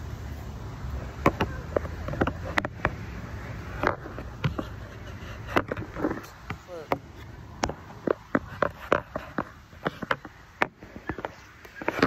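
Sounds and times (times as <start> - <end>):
low steady rumble: 0.0 - 11.1.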